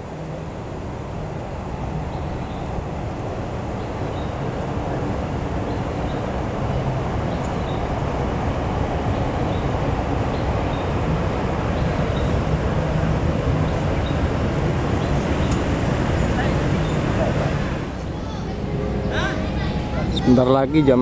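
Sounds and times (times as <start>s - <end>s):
city traffic: 0.0s - 21.0s
electric train rumbling: 0.0s - 21.0s.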